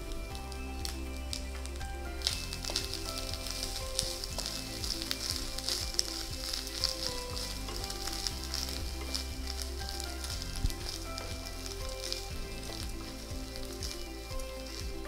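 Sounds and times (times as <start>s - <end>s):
food sizzling and crackling in a wok: 0.0s - 15.0s.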